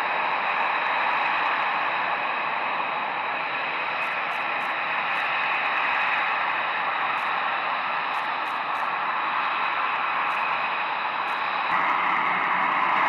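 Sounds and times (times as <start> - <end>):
faint high whine: 0.0 - 13.0
jet engines rushing: 0.0 - 13.0.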